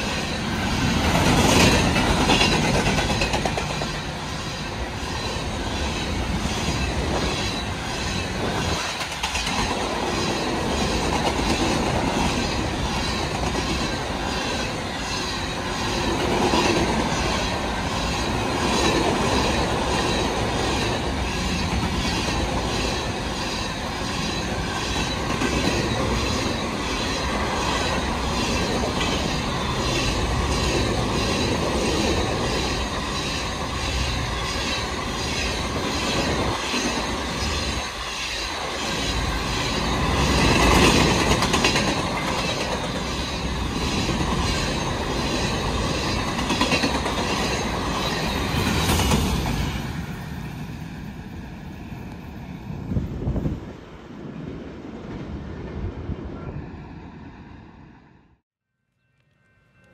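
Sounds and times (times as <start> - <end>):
train clickety-clack: 0.0 - 53.6
steel wheels rumbling on rail: 0.0 - 58.0.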